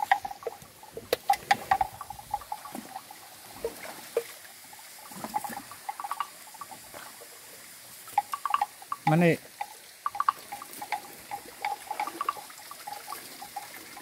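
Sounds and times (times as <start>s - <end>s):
animals slurping water: 0.0s - 14.0s
water splashing: 0.0s - 14.0s.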